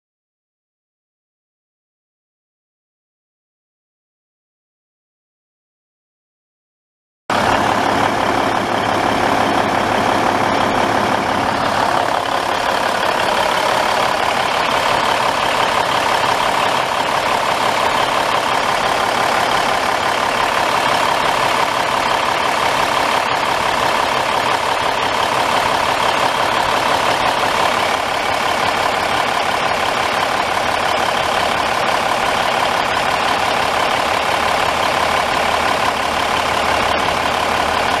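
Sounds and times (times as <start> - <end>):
truck diesel engine idling: 7.3 - 38.0.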